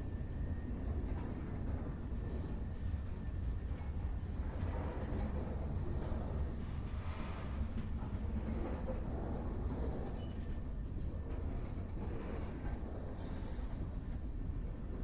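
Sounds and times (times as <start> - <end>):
rail and wheel noise: 0.0 - 15.0
train rumbling on tracks: 0.0 - 15.0.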